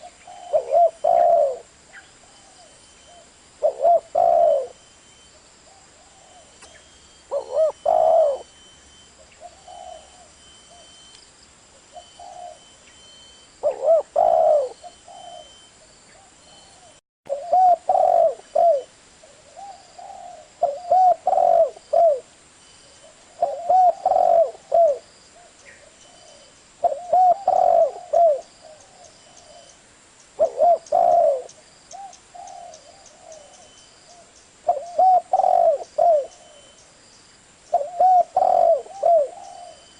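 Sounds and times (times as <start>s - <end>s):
dove cooing: 0.0s - 4.9s, 5.7s - 8.6s, 9.2s - 11.0s, 11.8s - 12.8s, 13.6s - 22.3s, 23.0s - 29.8s, 30.4s - 36.8s, 37.7s - 39.9s.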